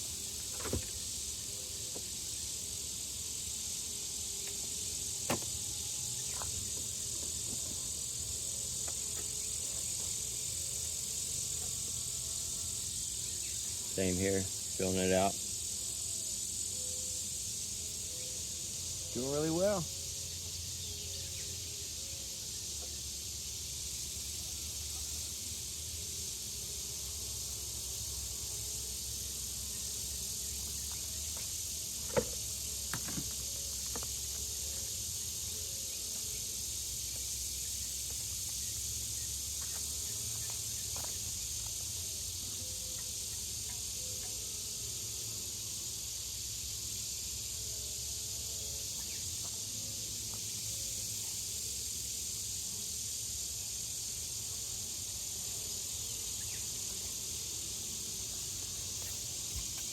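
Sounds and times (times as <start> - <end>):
honey bees buzzing: 0.0 - 59.9
steady hiss: 0.0 - 59.9.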